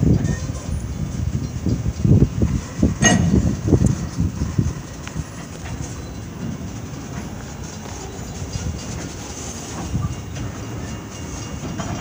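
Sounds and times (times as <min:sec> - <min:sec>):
train wheels rumbling on rail: 0:00.0 - 0:12.0
wheels clacking at rail joints: 0:00.0 - 0:12.0.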